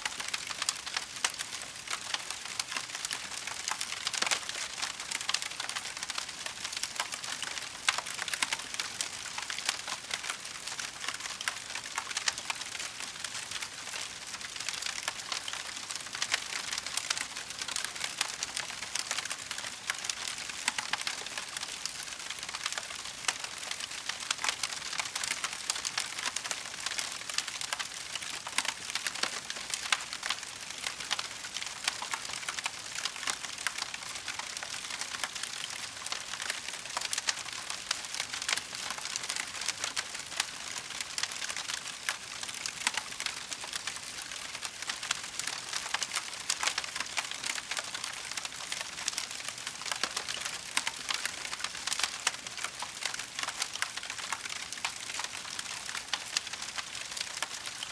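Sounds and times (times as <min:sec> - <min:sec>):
wood fire popping and snapping: 0:00.3 - 0:12.8, 0:14.4 - 0:57.9.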